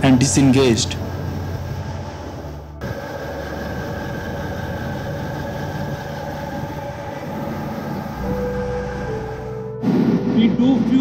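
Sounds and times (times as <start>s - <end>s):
engine-room machinery noise: 0.0s - 11.0s.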